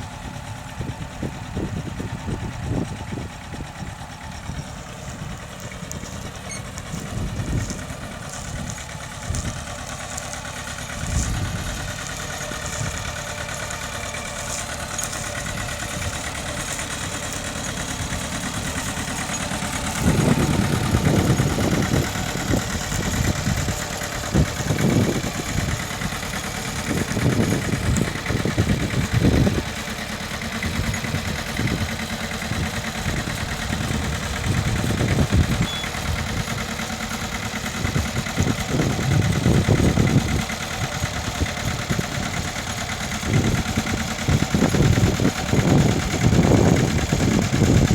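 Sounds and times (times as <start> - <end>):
tractor engine running: 0.0 - 47.9
low thumps and rumbles: 0.3 - 47.9.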